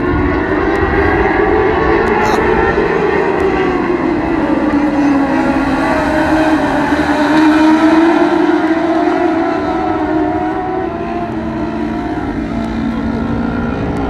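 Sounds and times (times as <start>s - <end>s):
race car engines whining: 0.0s - 14.0s.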